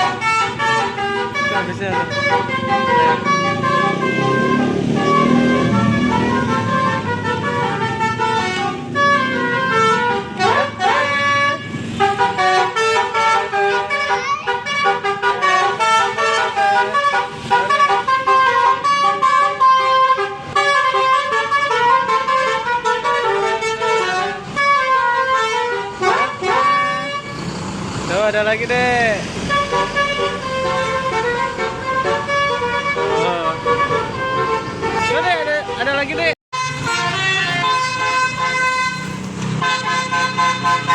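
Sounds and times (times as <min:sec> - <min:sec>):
musical air horn melody: 0:00.0 - 0:27.4, 0:29.5 - 0:35.4, 0:36.5 - 0:40.9.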